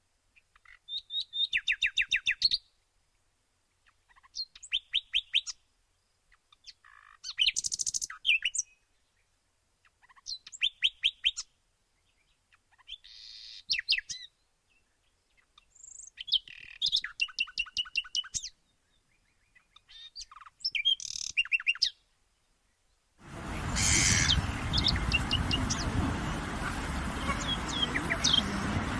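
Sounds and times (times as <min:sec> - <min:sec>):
songbird singing: 0:00.4 - 0:02.8, 0:03.8 - 0:22.1, 0:22.8 - 0:28.9.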